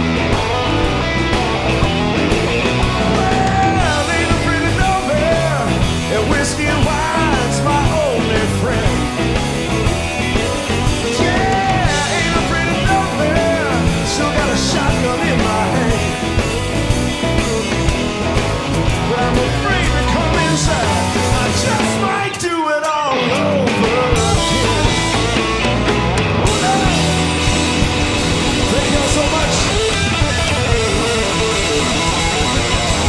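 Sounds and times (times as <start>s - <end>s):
bending guitar lead line: 0.0s - 33.0s
blues-rock band playing live: 0.0s - 33.0s.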